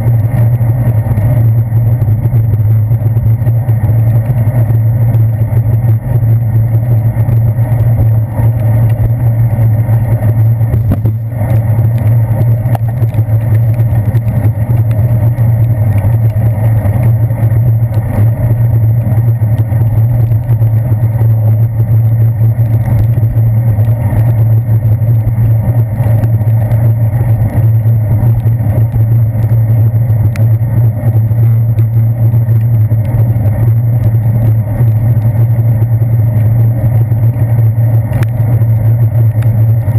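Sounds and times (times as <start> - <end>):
bicycle road vibration: 0.0 - 39.9
wind rumble: 0.0 - 39.9.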